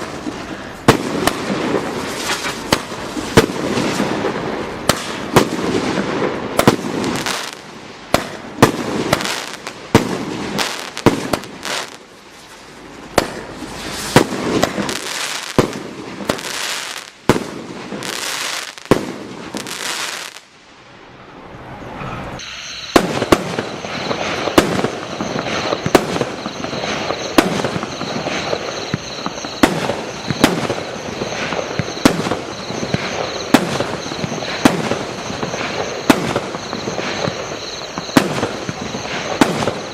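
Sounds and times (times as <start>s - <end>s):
firework barrage bangs: 0.0s - 12.0s, 13.1s - 20.4s, 22.4s - 39.9s
firework whistle: 0.0s - 12.1s, 13.2s - 20.4s, 21.8s - 39.9s.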